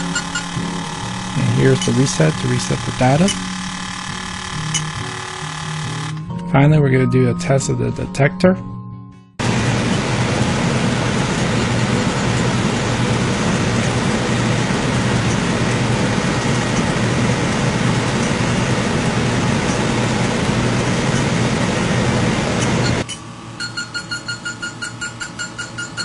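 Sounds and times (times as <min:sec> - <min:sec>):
air conditioner unit humming: 0:00.0 - 0:06.8, 0:09.4 - 0:26.0.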